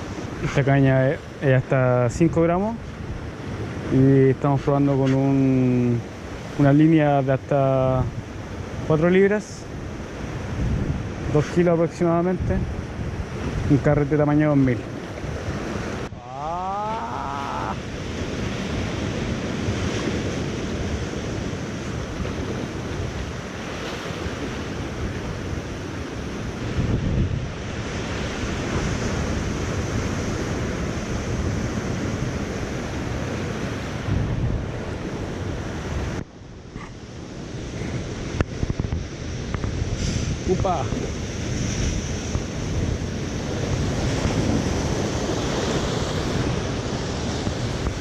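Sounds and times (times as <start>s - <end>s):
surf washing on rocks: 0.0s - 48.0s
wind buffeting microphone: 9.6s - 48.0s.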